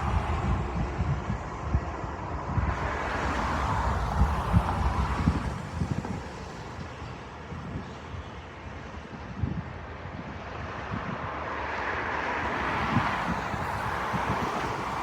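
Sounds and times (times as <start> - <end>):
wind buffeting microphone: 0.0 - 11.5, 12.4 - 15.0
rushing outdoor background: 0.0 - 15.0.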